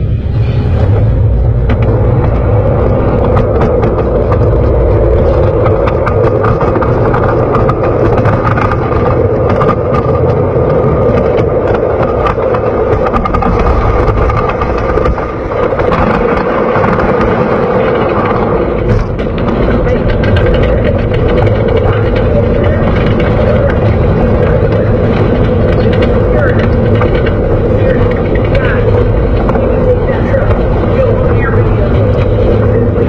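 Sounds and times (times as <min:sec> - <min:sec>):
roller coaster train rumbling: 0:00.0 - 0:33.0
clicks and rattles on track: 0:01.2 - 0:33.0.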